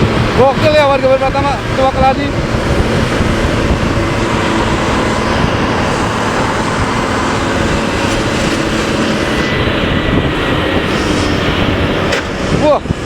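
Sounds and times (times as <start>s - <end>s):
diesel bus exhaust rumble: 0.0s - 13.0s
road and wind noise: 0.0s - 13.0s.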